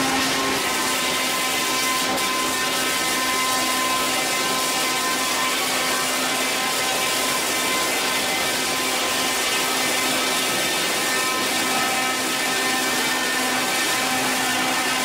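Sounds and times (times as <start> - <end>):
log debarking machine grinding: 0.0 - 15.0.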